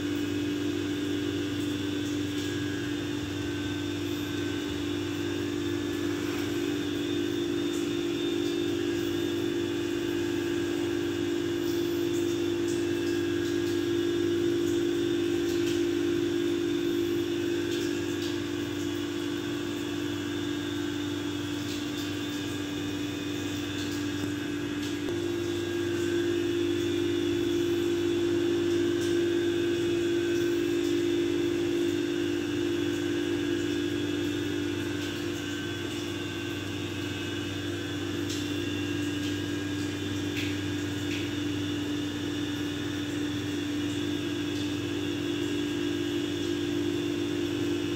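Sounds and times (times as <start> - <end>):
mechanical hum with low drone: 0.0 - 47.9.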